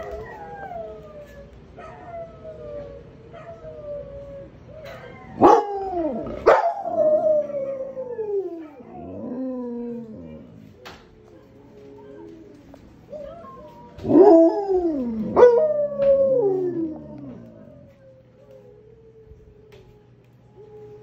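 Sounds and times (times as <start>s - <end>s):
dogs howling: 0.0s - 21.0s.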